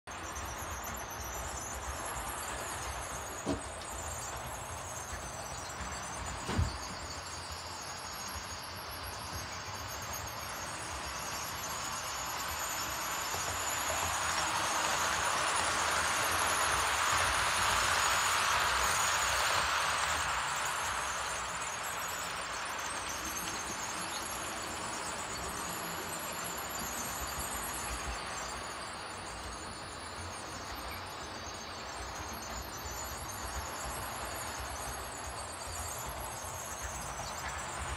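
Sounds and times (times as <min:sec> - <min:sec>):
model tram whirring on track: 0:00.1 - 0:37.9.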